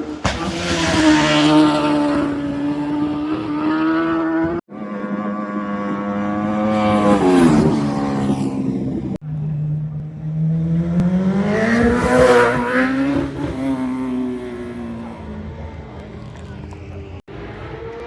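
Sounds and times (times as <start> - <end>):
racing motorcycles passing: 0.0 - 18.0.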